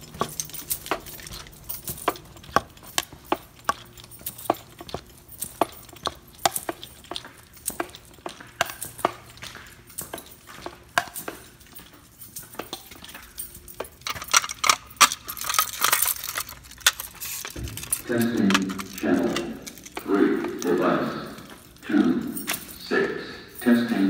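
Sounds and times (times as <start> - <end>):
metal clinking and rattling: 0.0 - 22.9
footsteps: 0.0 - 24.0
keys jingling: 0.0 - 24.0.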